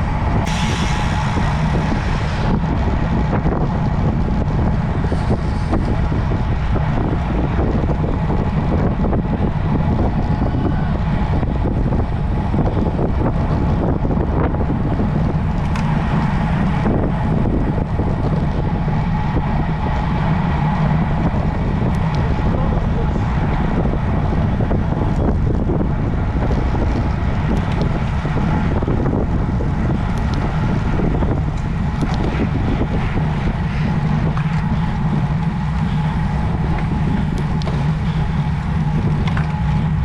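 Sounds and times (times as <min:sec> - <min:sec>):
wind rumble on microphone: 0:00.0 - 0:40.0.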